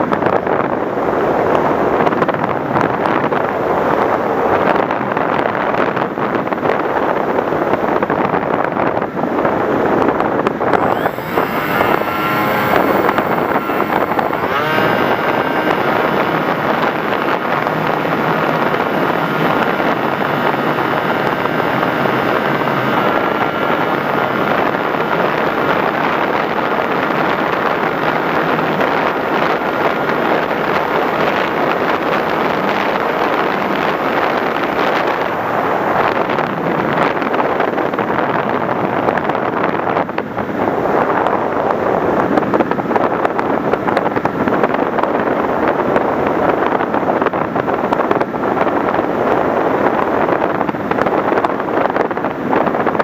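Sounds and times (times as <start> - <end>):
model plane motor and propeller: 9.5 - 53.0.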